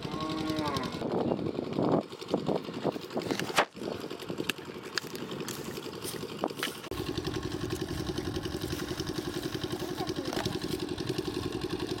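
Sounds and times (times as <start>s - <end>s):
small engine chugging: 0.0s - 12.0s.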